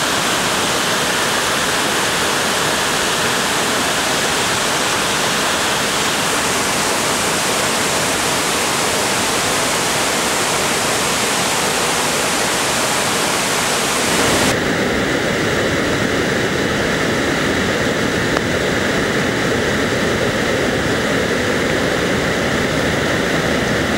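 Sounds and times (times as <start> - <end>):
waterfall rushing over rocks: 0.0 - 23.9.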